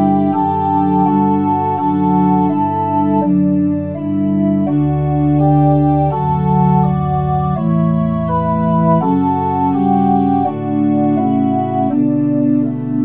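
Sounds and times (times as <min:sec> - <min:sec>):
low organ bass note: 0:00.0 - 0:13.0
pipe organ chords: 0:00.0 - 0:13.0.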